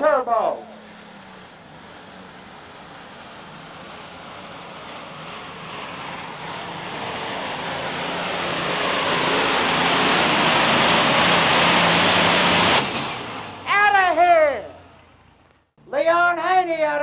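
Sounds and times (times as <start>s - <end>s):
tractor engine at full power: 0.0s - 15.7s
high steady whine: 0.0s - 16.1s.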